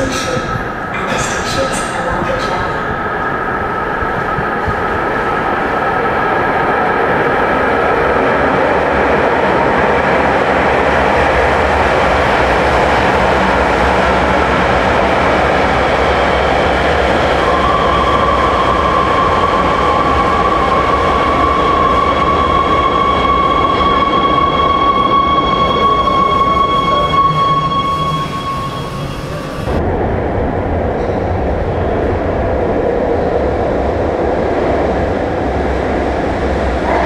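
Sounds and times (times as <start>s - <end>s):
train rumble and rush: 0.0s - 37.0s.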